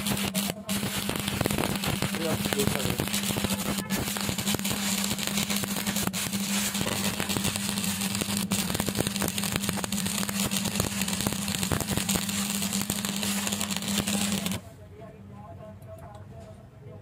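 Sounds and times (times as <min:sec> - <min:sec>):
welding arc crackling: 0:00.0 - 0:14.6.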